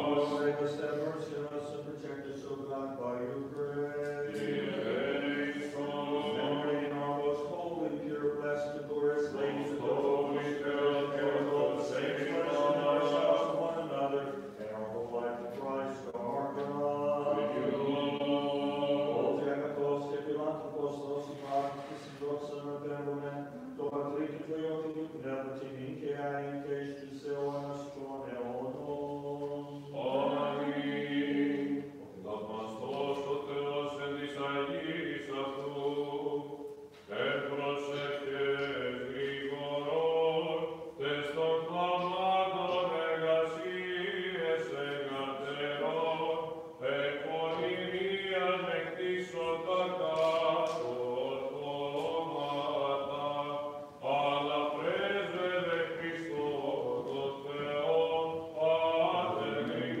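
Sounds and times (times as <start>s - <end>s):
men chanting: 0.0s - 36.5s, 37.1s - 60.0s.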